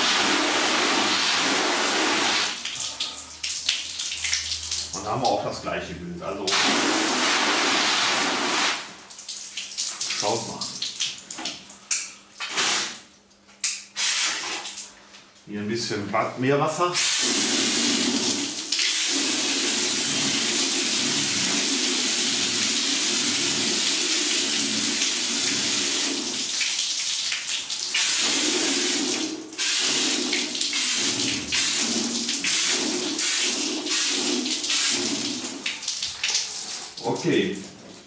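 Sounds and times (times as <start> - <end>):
hose water splashing on car: 0.0 - 5.4, 6.5 - 13.2, 17.0 - 38.0.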